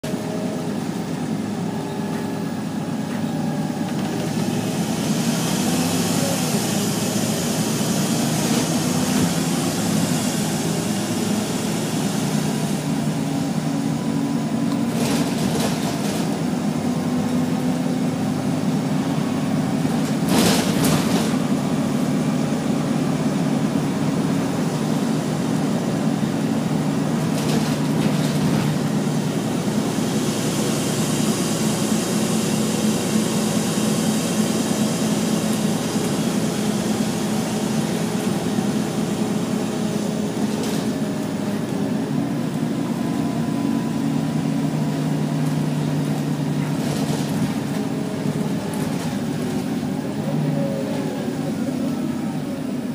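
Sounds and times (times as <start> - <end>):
bus engine drone: 0.0 - 52.9
road noise: 0.0 - 52.9.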